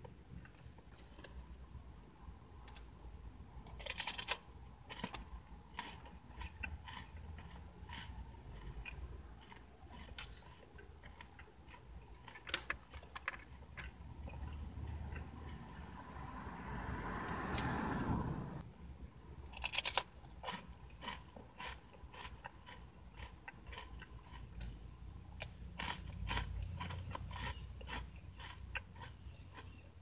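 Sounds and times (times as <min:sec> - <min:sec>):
person chewing crunchy food: 0:02.6 - 0:16.4, 0:19.5 - 0:30.0.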